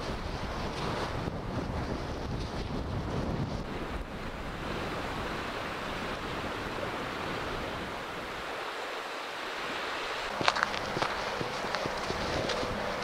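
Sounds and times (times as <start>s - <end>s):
distant sea surf: 0.0s - 13.0s
wind buffeting microphone: 0.0s - 13.0s.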